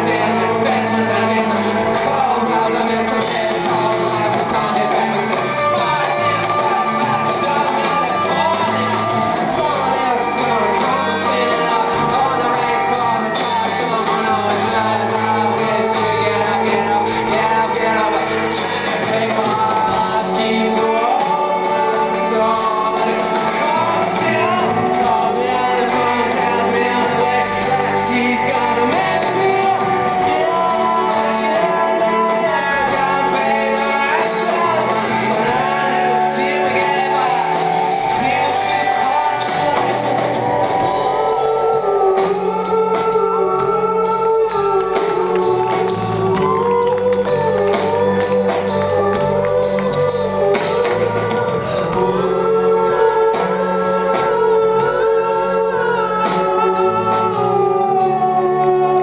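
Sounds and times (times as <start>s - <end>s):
live rock band: 0.0s - 59.0s
man singing lead vocal: 0.0s - 59.0s.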